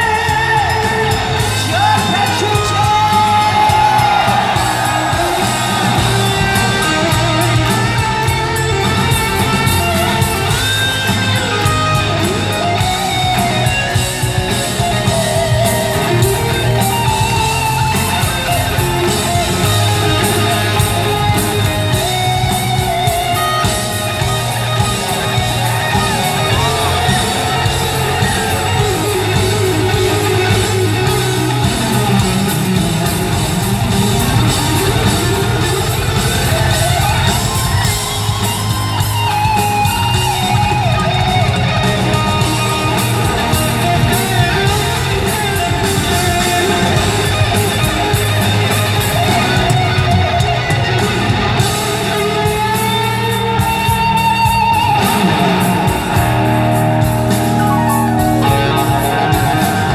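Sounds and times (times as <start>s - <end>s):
bending electric guitar lead: 0.0s - 59.9s
live rock band playing: 0.0s - 59.9s.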